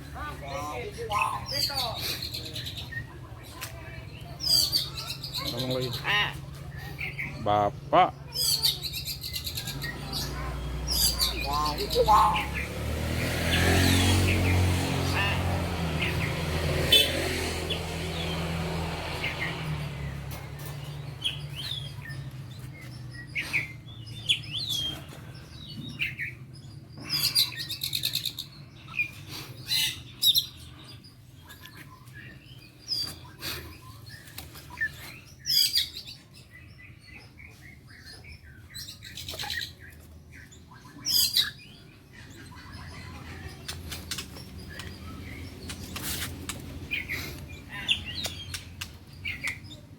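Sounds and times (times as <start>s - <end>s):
songbirds chirping and whistling: 0.0s - 49.9s.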